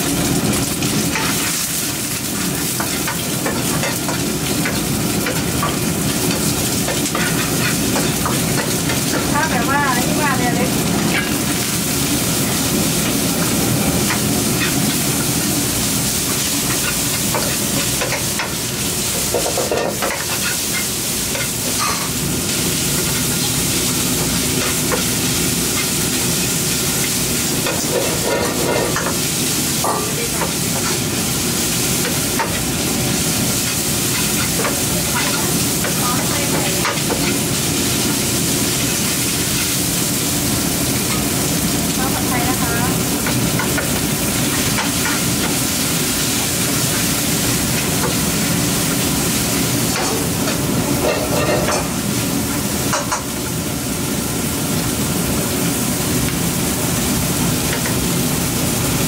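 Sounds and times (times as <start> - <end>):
gas burner roaring: 0.0 - 59.0
noodles sizzling in a wok: 0.0 - 59.0.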